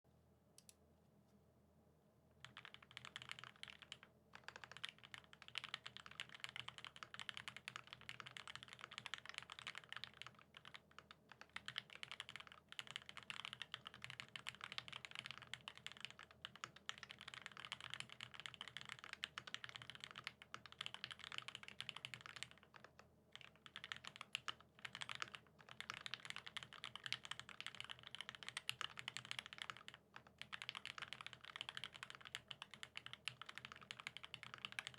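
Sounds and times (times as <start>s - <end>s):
mechanical keyboard typing: 2.4s - 34.9s.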